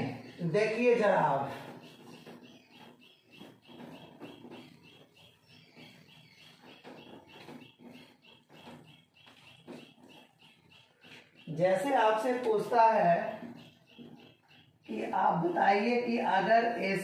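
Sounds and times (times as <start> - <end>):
high chirp: 0.0 - 16.7.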